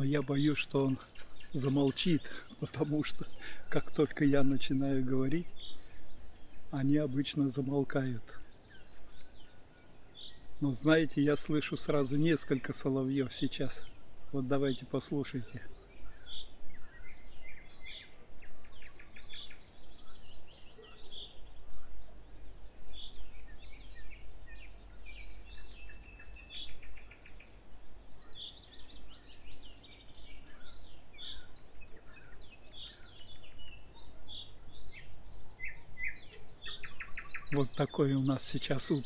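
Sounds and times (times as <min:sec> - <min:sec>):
nightingales singing: 0:00.0 - 0:39.0.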